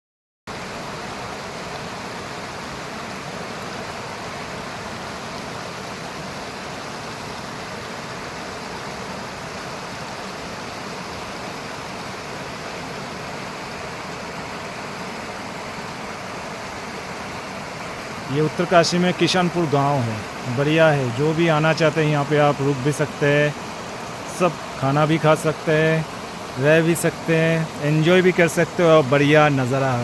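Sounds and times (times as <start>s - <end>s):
river water rushing over rocks: 0.5s - 30.0s.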